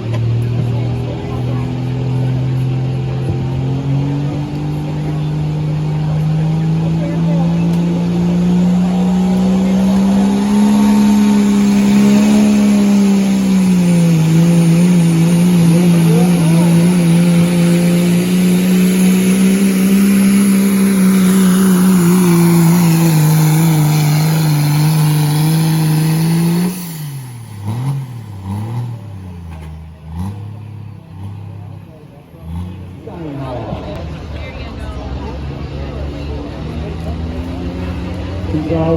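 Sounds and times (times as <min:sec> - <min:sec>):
diesel engine at high revs: 0:00.0 - 0:38.9.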